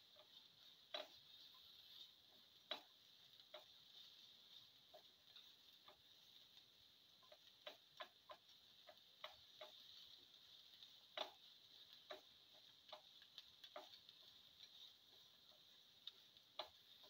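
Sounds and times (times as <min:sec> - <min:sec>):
faint steady hiss: 0:00.0 - 0:17.0
spatula tapping and scraping pan: 0:00.0 - 0:17.0.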